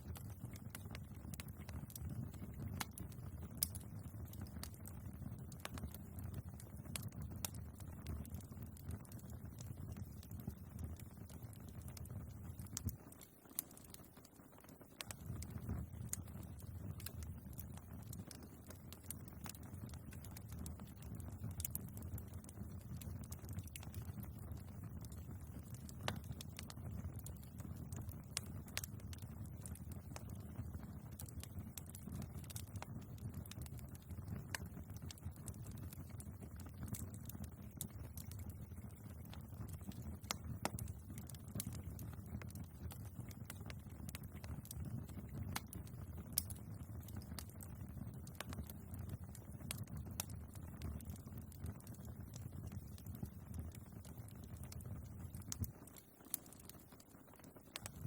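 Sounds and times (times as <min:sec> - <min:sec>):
fire rumbling: 0:00.0 - 0:14.0, 0:14.8 - 0:56.8
logs crackling and popping: 0:00.0 - 0:58.0.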